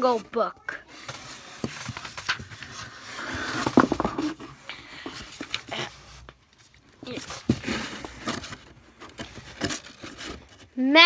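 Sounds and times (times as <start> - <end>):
paper pages rustling: 0.0 - 10.8.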